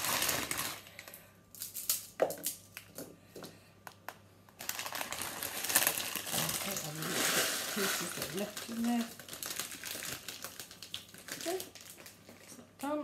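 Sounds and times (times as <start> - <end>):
plastic packet crinkling: 0.0 - 2.9, 4.6 - 12.6.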